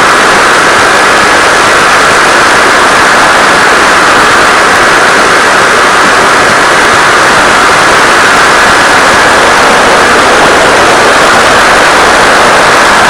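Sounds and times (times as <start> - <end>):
steady loud hiss: 0.0 - 13.0.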